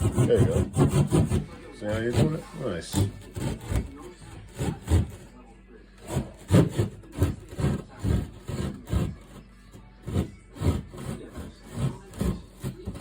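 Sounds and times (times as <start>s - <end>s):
hand saw cutting drywall: 0.0s - 5.4s, 6.0s - 13.0s.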